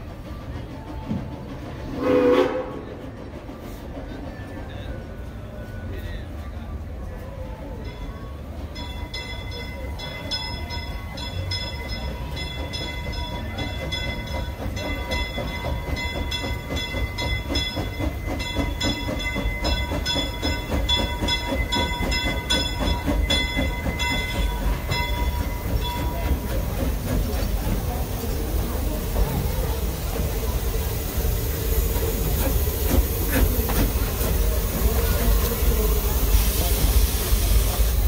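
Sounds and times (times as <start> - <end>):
steam locomotive: 0.0 - 38.0.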